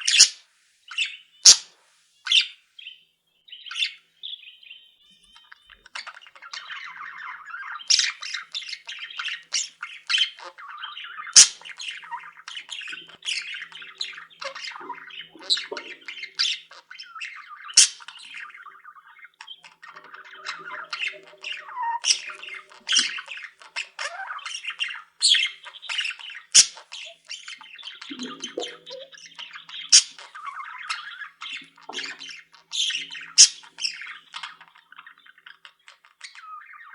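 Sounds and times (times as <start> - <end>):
bird squawks and chirps: 0.0 - 36.9
cage birds chattering: 0.0 - 36.9.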